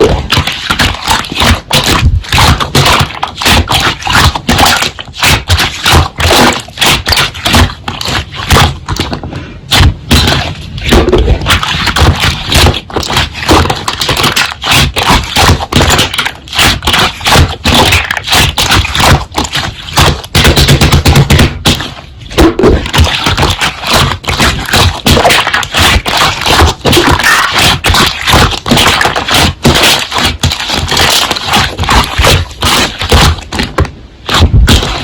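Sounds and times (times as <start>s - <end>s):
slime squelching: 0.0s - 35.0s.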